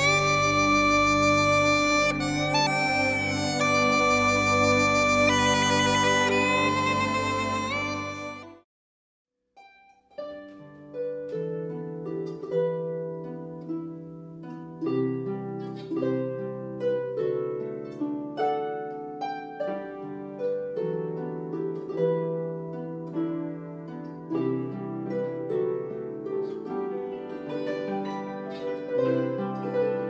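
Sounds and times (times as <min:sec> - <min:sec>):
plucked string melody: 0:00.0 - 0:08.6, 0:09.6 - 0:30.0.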